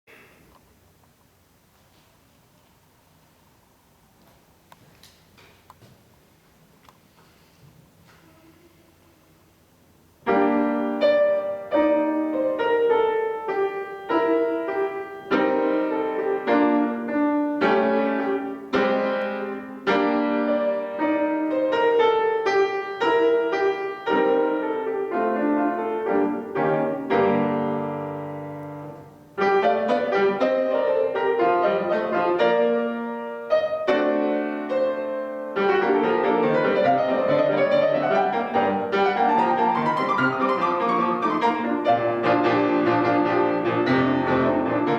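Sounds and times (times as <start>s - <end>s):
solo piano dance piece: 0.1s - 44.9s.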